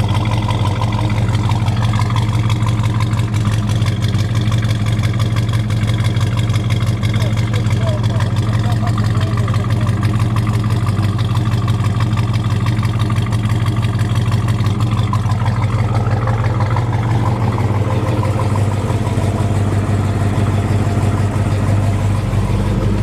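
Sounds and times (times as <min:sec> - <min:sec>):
car engine idling lumpily: 0:00.0 - 0:23.0.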